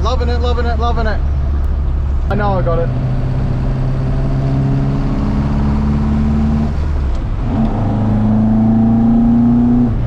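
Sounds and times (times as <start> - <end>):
car engine accelerating: 1.4 - 10.0.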